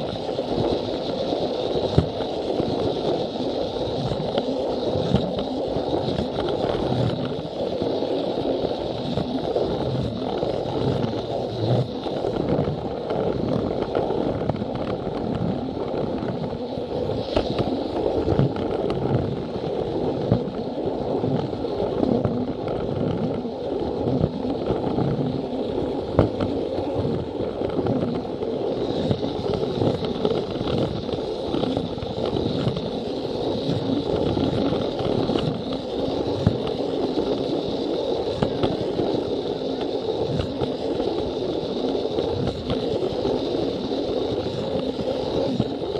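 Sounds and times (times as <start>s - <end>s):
thin high whine: 0.0s - 45.9s
toy train motor whirring: 0.0s - 45.9s.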